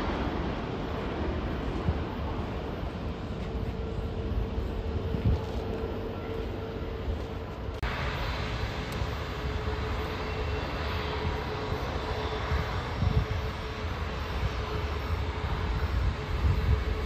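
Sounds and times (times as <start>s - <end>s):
faint engine whine: 0.0s - 17.0s
jet engines running: 0.0s - 17.0s.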